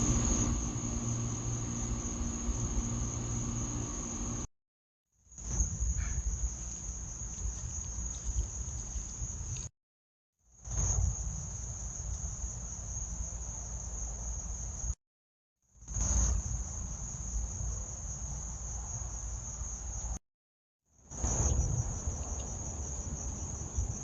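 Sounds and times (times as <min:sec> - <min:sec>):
crickets trilling: 0:00.0 - 0:04.5, 0:05.4 - 0:09.7, 0:10.7 - 0:15.0, 0:15.9 - 0:20.2, 0:21.0 - 0:24.0.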